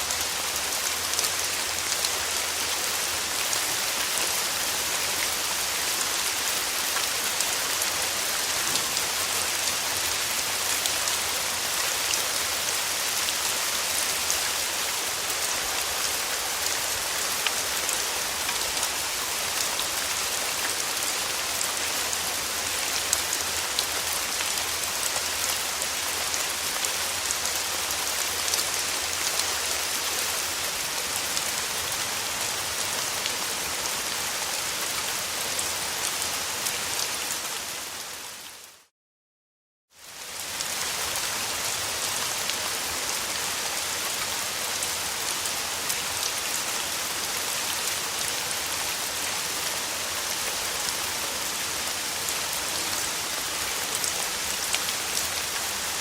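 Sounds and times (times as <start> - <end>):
steady rain falling: 0.0 - 38.9, 39.9 - 56.0.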